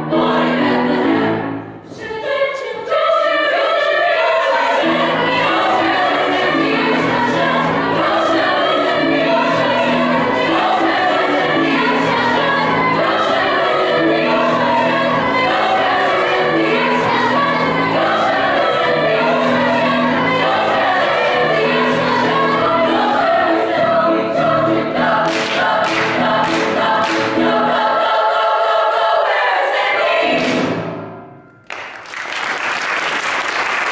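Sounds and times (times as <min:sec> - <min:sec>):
girls' choir singing: 0:00.0 - 0:31.2.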